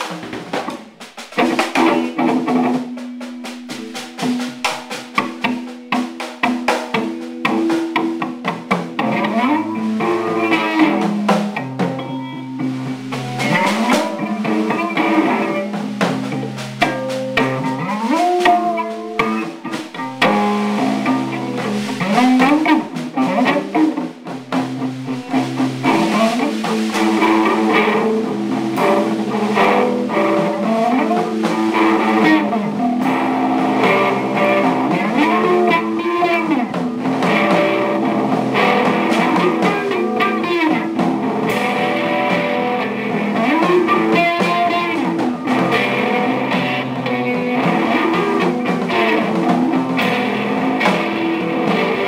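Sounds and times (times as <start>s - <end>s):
drum kit: 0.0s - 52.0s
guitar with bending notes: 0.0s - 52.0s.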